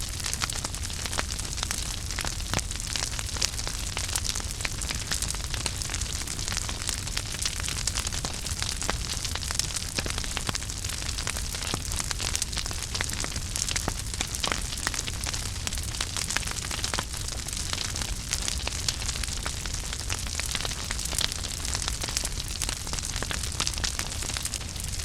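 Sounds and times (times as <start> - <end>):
flames hissing and rumbling: 0.0 - 25.0
wood fire crackling and popping: 0.0 - 25.0.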